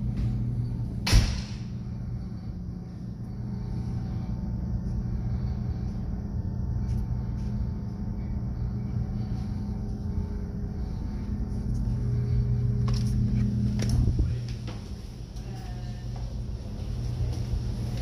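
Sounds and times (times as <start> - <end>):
machinery drone: 0.0 - 18.0.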